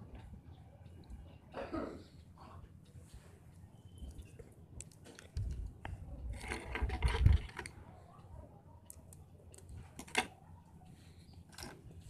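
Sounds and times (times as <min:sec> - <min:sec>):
handling electronic parts: 0:02.2 - 0:12.0.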